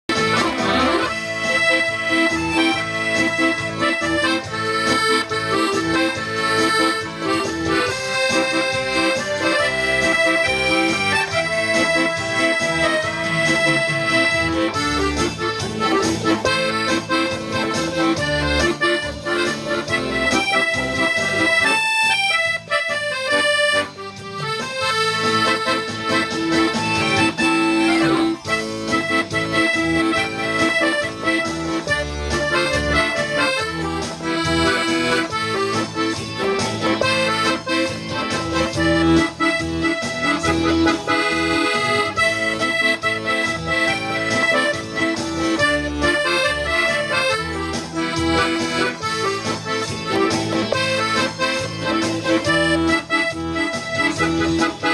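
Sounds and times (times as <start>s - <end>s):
accordion playing a tune: 0.1s - 54.9s.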